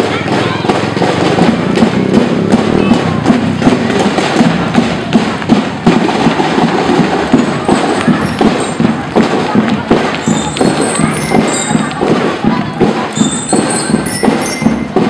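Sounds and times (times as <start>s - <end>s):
marching band melody: 0.0s - 15.0s
marching drums beating: 0.0s - 15.0s.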